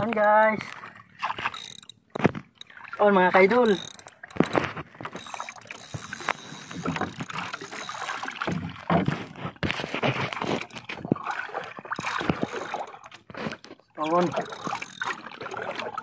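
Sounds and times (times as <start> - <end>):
knocks and clicks from boat: 0.0 - 16.0
water lapping against a boat: 0.0 - 16.0.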